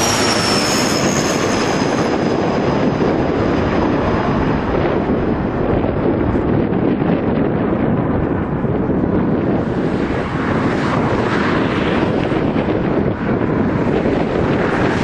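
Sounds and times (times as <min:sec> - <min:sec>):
turboprop aircraft passing overhead: 0:00.0 - 0:15.0
wind buffeting microphone: 0:00.0 - 0:15.0.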